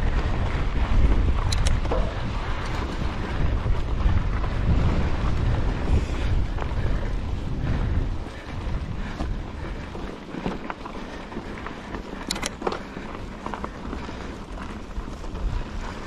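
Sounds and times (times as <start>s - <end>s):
bike clicks and rattles: 0.0s - 16.0s
bike tyres crunching on dirt: 0.0s - 16.0s.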